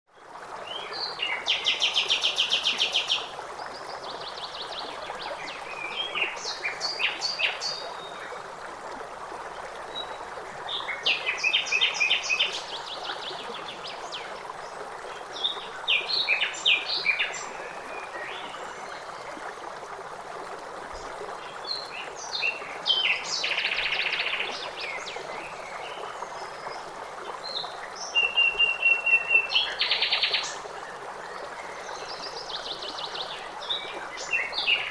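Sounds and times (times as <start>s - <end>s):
flowing water rushing: 0.1s - 34.9s.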